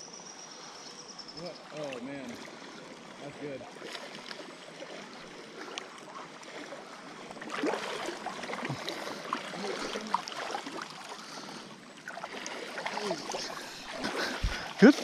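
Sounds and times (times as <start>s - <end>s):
people wading through water: 1.4s - 15.0s
water splashing: 1.6s - 15.0s.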